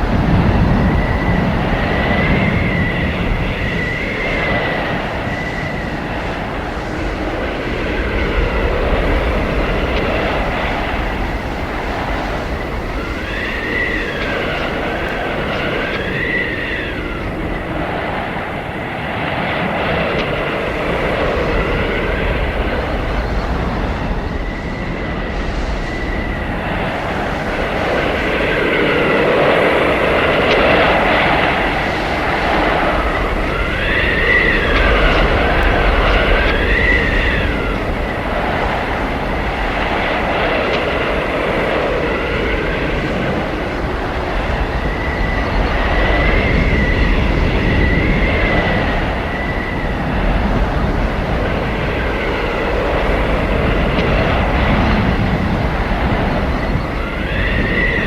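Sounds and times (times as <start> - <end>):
howling blizzard wind: 0.0 - 58.0.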